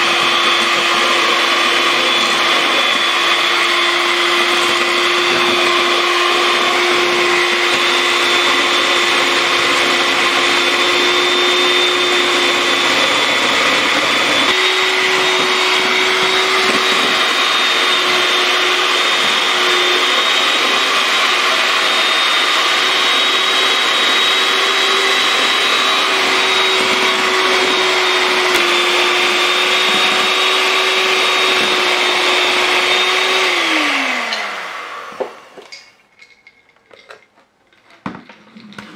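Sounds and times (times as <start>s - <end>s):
electric hand mixer whipping: 0.0s - 35.9s.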